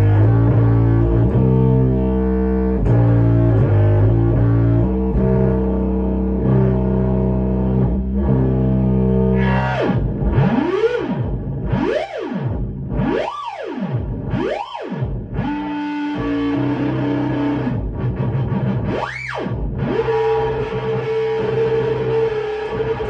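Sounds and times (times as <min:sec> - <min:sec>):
fuzzed bass guitar: 0:00.0 - 0:23.0.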